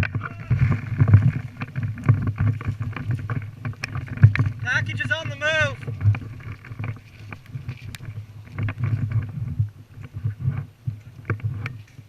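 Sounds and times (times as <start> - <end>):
rumbling and rustling of movement: 0.0 - 12.0.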